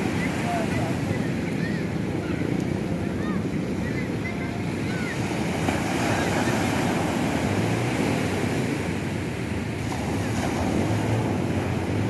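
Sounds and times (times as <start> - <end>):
sea waves and surf: 0.0 - 12.0
wind buffeting microphone: 0.0 - 12.0.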